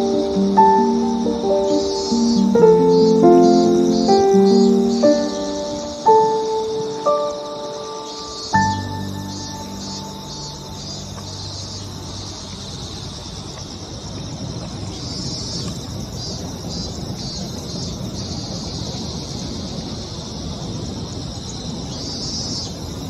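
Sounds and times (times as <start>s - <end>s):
train rumbling over bridge: 0.0s - 20.8s
insects chirping: 0.0s - 23.0s.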